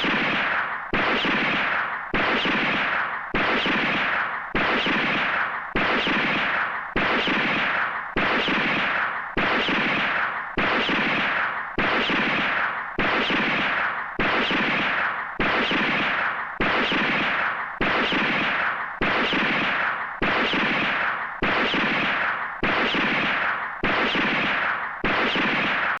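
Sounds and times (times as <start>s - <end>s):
pistol gunshots with echo: 0.0s - 26.0s.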